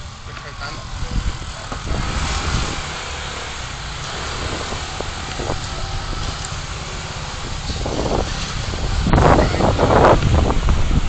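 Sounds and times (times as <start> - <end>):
scooter engine and road noise: 0.0 - 11.0.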